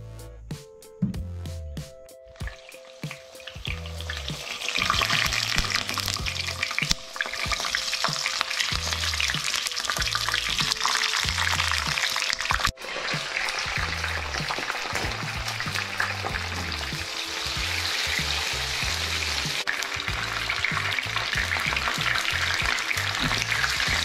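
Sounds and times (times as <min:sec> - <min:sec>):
peppers sizzling in hot oil: 0:02.4 - 0:24.0.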